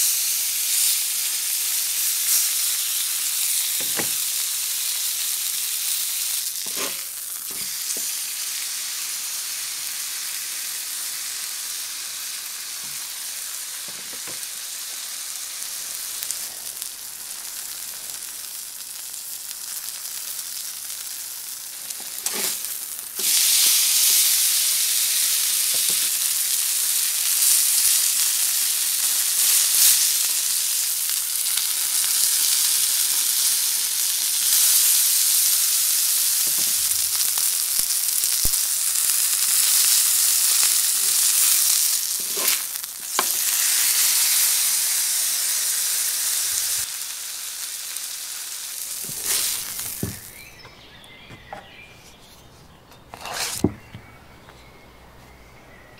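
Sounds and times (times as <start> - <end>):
steak sizzling on a griddle: 0.0 - 50.6.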